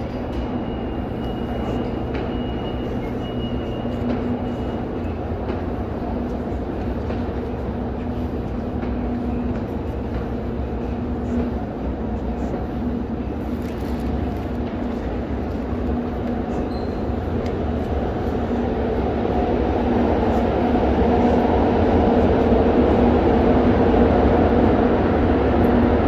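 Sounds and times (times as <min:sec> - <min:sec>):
passengers shuffling footsteps: 0:00.0 - 0:26.0
train humming and rumbling: 0:00.0 - 0:26.0.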